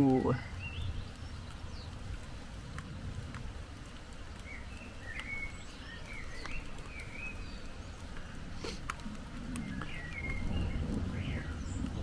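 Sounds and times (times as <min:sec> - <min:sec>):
faint ticks: 0:00.0 - 0:11.1
birds chirping: 0:00.0 - 0:12.0
low outdoor rumble: 0:00.0 - 0:12.0.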